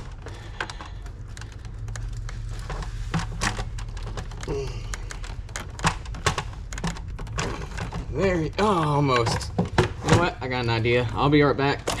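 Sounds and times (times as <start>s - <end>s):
hands clicking plastic parts: 0.0s - 12.0s
steady low hum: 0.0s - 12.0s.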